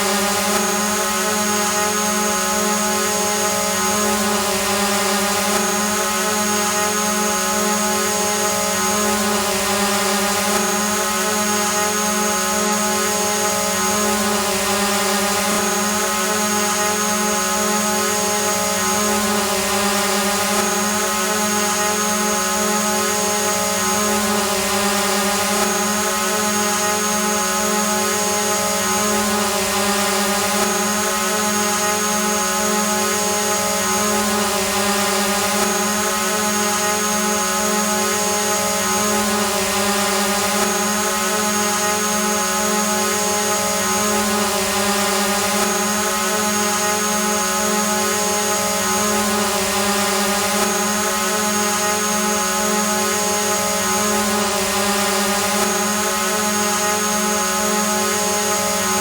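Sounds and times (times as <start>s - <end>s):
drone motors buzzing hum: 0.0s - 59.0s
high propeller whine: 0.0s - 59.0s.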